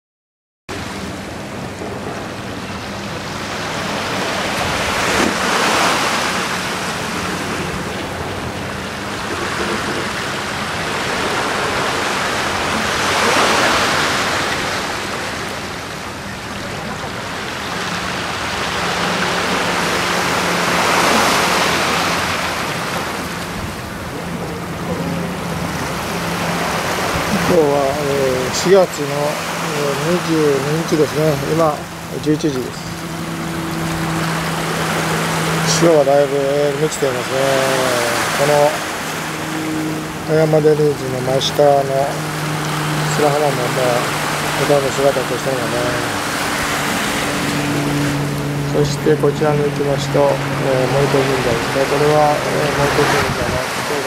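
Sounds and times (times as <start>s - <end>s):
small waves washing onto sand: 0.7s - 54.0s.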